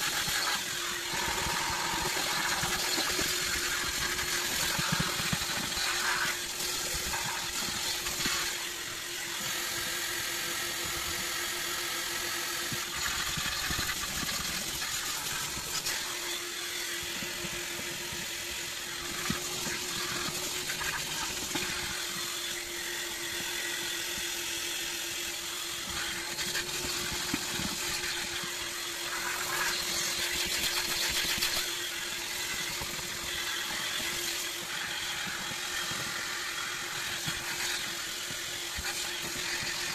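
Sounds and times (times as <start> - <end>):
vacuum cleaner on carpet: 0.0 - 39.9.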